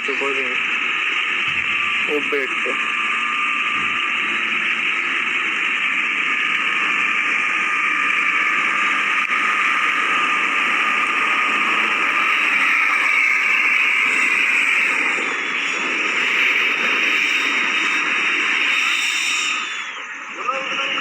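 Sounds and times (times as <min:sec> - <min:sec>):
vehicle engine droning: 0:00.0 - 0:18.2
faint whine: 0:00.0 - 0:21.0.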